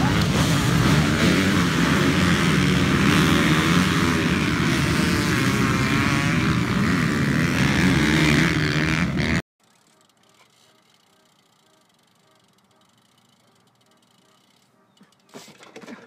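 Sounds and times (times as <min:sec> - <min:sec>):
dirt bike engines revving: 0:00.0 - 0:15.6.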